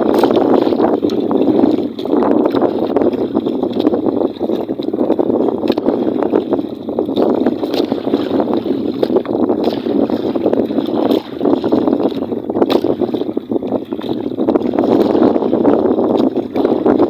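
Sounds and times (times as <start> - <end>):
water rushing around boat: 0.0 - 17.0
wind on microphone: 0.0 - 17.0.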